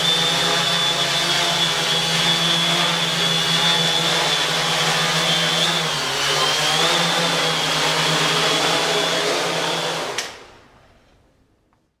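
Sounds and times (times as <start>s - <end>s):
drone propellers whirring: 0.0s - 10.2s.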